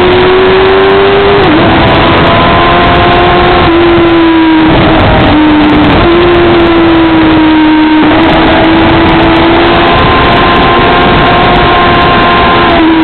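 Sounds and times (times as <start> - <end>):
motorcycle engine at high revs: 0.0 - 13.0
wind rush on microphone: 0.0 - 13.0.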